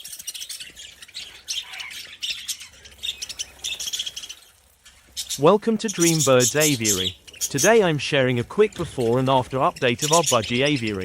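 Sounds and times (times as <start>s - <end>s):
budgies chirping and squawking: 0.0s - 11.0s.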